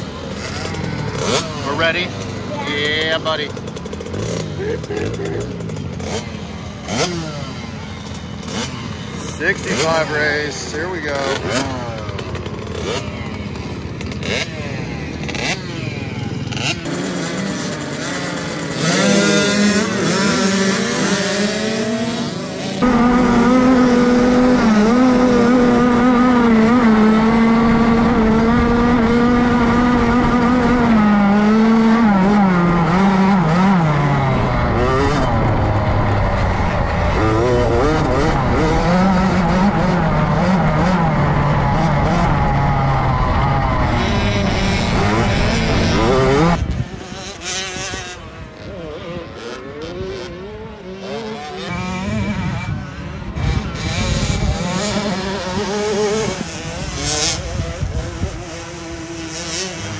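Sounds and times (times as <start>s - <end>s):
motocross bikes idling and revving: 0.0s - 59.9s
two-stroke engine at high revs: 0.0s - 59.9s.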